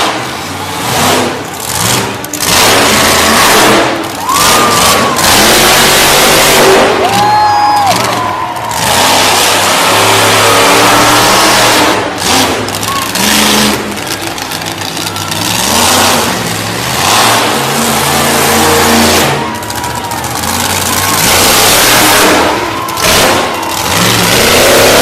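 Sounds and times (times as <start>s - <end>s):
truck engine revving hard: 0.0s - 25.0s.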